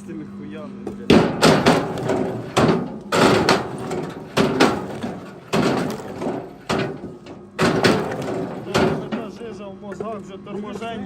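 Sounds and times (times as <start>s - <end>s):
firewood knocks and thuds: 0.9s - 10.2s.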